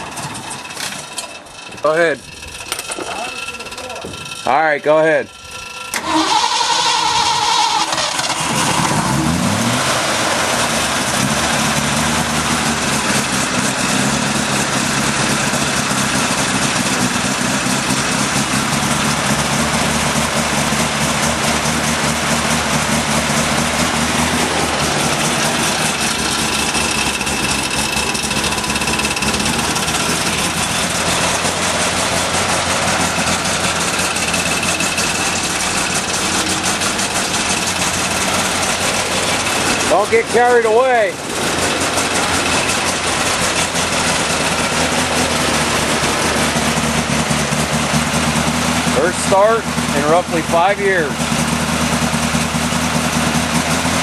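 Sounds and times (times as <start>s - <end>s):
truck engine starting and running: 0.0s - 54.0s.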